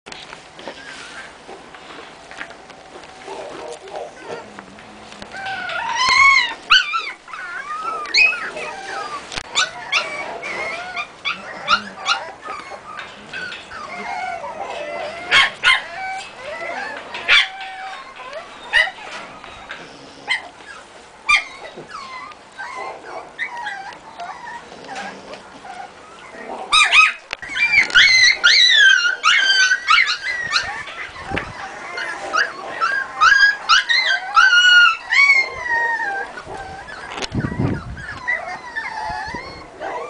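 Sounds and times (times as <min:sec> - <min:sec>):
dogs yipping and whining: 0:00.6 - 0:01.4, 0:05.2 - 0:40.0.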